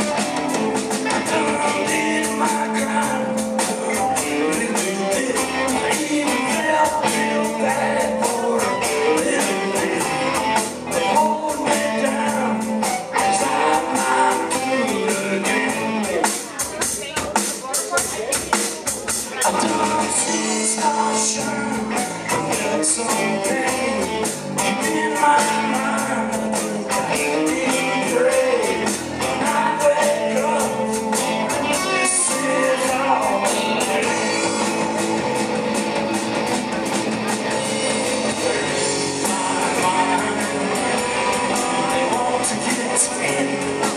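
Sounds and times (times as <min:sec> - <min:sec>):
bass guitar: 0:00.0 - 0:43.9
drum kit steady beat: 0:00.0 - 0:43.9
electric guitars: 0:00.0 - 0:43.9
man singing: 0:00.8 - 0:16.6, 0:18.6 - 0:35.2, 0:37.2 - 0:43.9.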